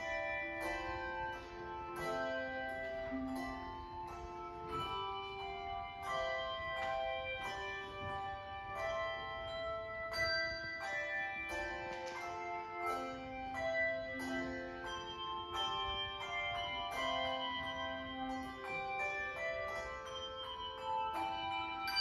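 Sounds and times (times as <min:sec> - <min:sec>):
handbell chords ringing: 0:00.0 - 0:22.0.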